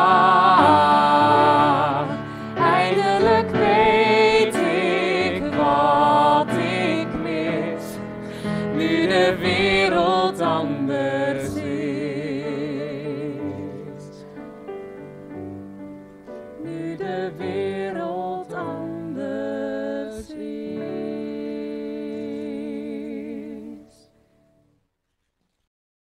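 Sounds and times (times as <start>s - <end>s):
man and woman singing duet: 0.0s - 14.2s, 16.6s - 24.0s
grand piano: 0.0s - 24.6s.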